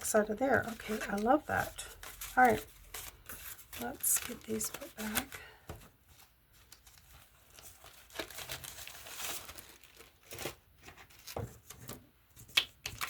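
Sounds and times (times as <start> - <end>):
paper rustling and crinkling: 0.1 - 13.0.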